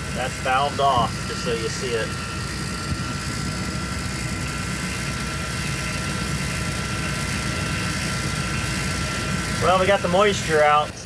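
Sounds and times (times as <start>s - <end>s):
vacuum pump running: 0.0s - 11.0s.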